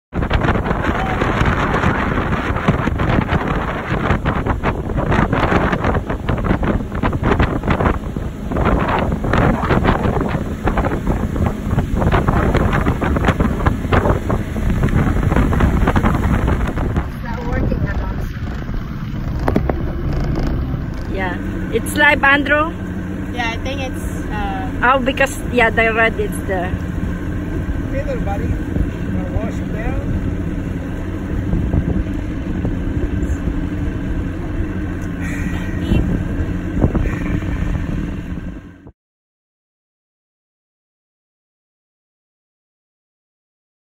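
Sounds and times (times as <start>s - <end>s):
wind buffeting microphone: 0.1s - 38.9s
motorboat engine rumbling: 0.1s - 39.0s.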